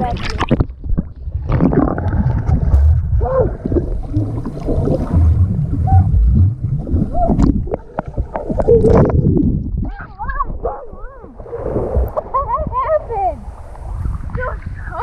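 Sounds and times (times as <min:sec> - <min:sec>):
water sloshing and gurgling: 0:00.0 - 0:15.0
low rumble: 0:00.4 - 0:12.8.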